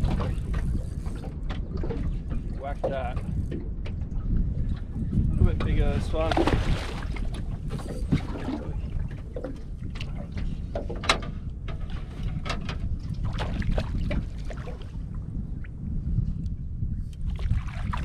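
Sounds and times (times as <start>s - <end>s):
water lapping at boat hull: 0.0s - 15.8s, 17.1s - 18.0s
wind buffeting microphone: 0.0s - 18.0s.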